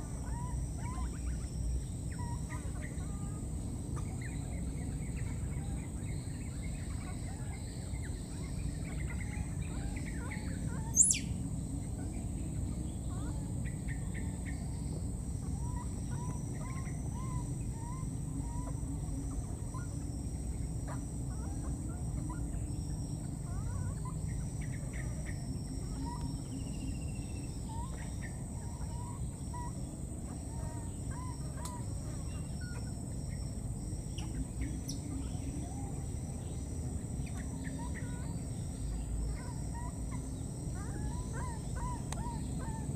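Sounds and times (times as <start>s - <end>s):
birds calling: 0.0s - 42.9s.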